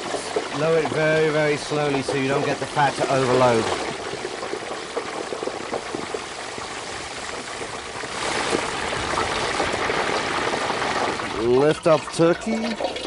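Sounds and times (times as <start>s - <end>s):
oil bubbling and hissing: 0.0s - 13.0s
small crackles of frying oil: 0.0s - 13.0s.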